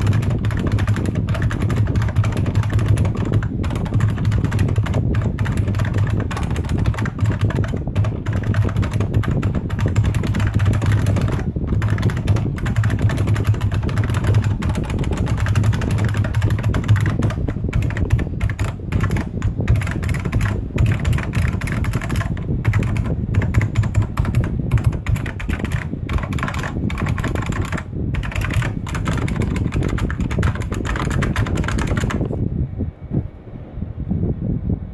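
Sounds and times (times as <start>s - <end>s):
fast keyboard typing clicks: 0.0s - 32.4s.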